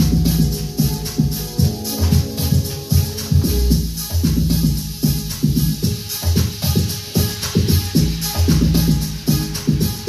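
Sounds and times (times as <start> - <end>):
dance music with deep bass: 0.0 - 10.0.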